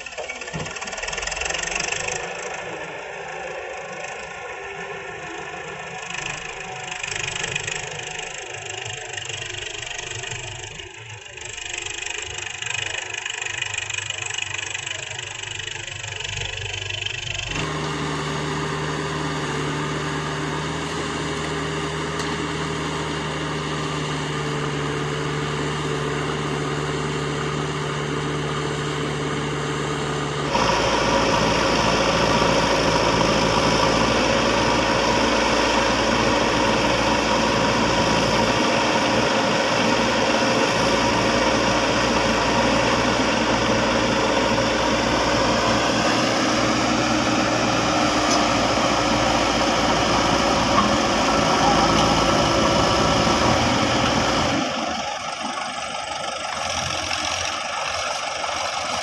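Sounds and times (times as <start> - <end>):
diesel engines running: 0.0 - 59.0
steady engine drone: 0.0 - 59.0.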